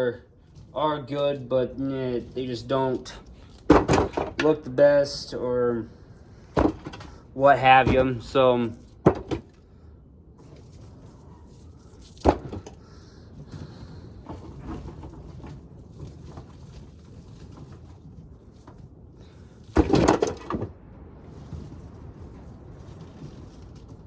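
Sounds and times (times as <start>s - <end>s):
corn ears clattering together: 0.0s - 5.6s, 6.4s - 9.6s, 10.4s - 24.0s
corn ears rustling and clicking: 0.0s - 9.5s, 10.4s - 20.6s.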